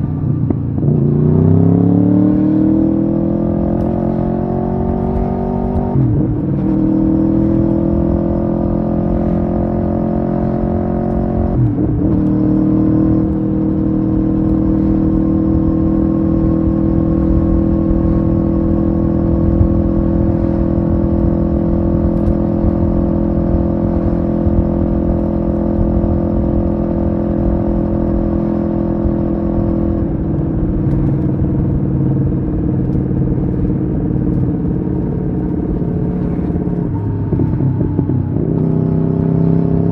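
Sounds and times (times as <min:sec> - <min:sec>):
motorcycle engine shifting gears: 0:00.0 - 0:39.9
wind rumble: 0:00.0 - 0:39.9.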